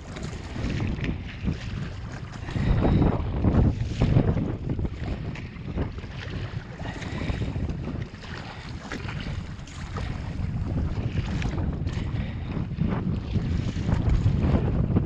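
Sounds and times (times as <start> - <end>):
water splashing against kayak: 0.0 - 15.0
wind buffeting microphone: 0.0 - 15.0.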